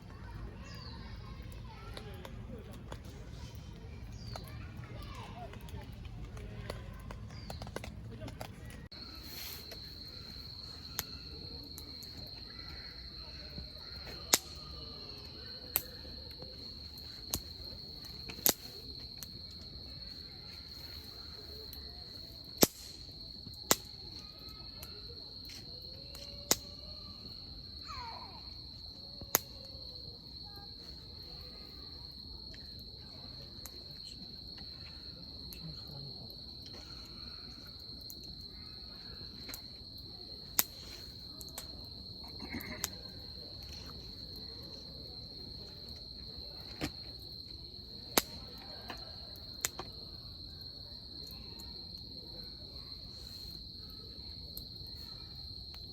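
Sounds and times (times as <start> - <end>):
campfire crackling and popping: 0.1 - 27.8, 28.9 - 35.6, 36.3 - 52.3
insects chirring: 0.1 - 55.9.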